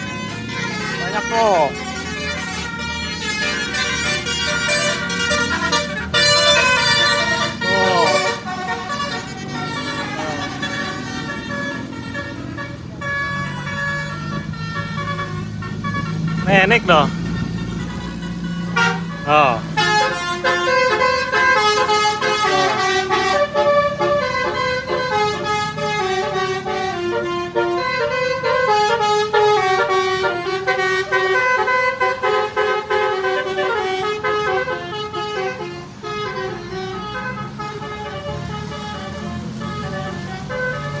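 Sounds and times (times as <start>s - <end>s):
multi-tone bus horn melody: 0.0s - 41.0s.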